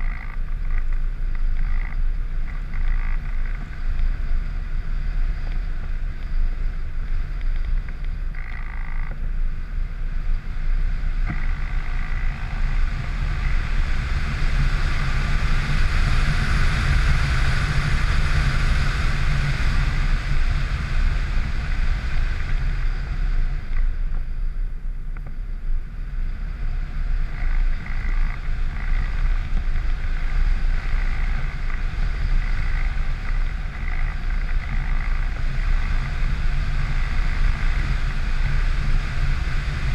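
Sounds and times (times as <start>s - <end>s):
aircraft propeller drone: 0.0s - 39.9s
wind rushing over microphone: 0.0s - 39.9s.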